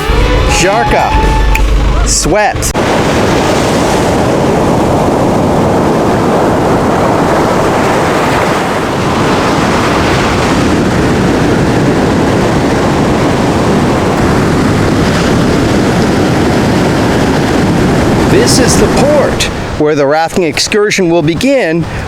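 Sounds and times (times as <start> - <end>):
surf breaking on beach: 0.0 - 22.0
wind buffeting microphone: 0.0 - 22.0.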